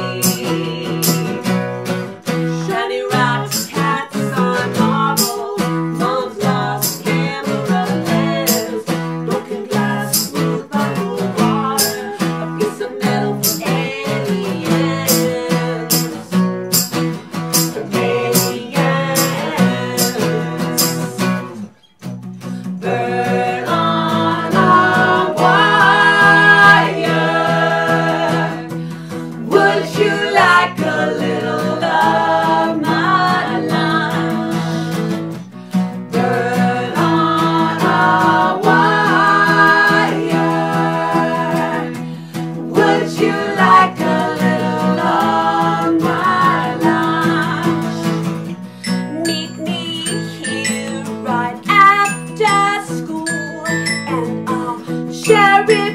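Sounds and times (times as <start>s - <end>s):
voices singing: 0.0s - 1.5s, 2.5s - 16.4s, 17.6s - 21.6s, 22.6s - 35.3s, 36.1s - 55.9s
strummed acoustic guitars: 0.0s - 55.9s
tambourine: 0.0s - 55.9s.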